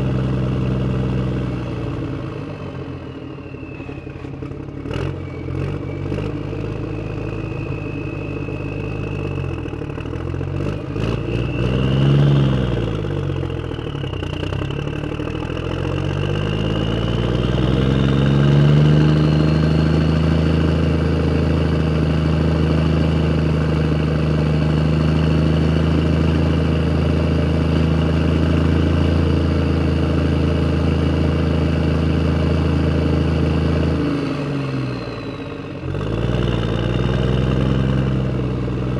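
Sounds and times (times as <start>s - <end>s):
vehicle engine revving: 4.1s - 38.9s.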